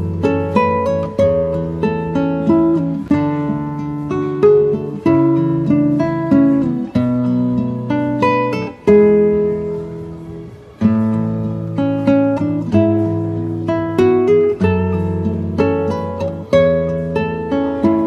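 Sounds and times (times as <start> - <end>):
acoustic guitar picking and strumming: 0.0 - 18.0.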